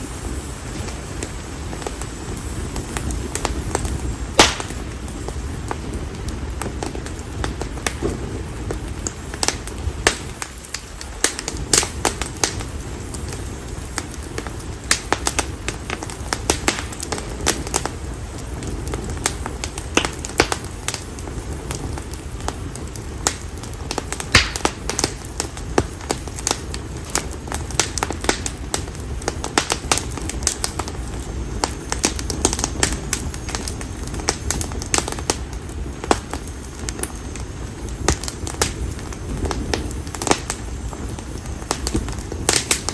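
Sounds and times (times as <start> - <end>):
bonfire crackling and popping: 0.0 - 42.9
low rumble of flames: 0.0 - 42.9.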